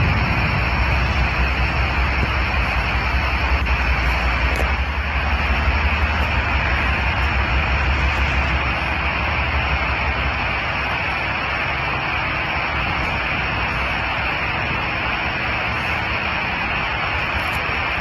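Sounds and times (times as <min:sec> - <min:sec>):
freight train rumbling past: 0:00.0 - 0:18.0
hiss of rolling wheels: 0:00.0 - 0:18.0.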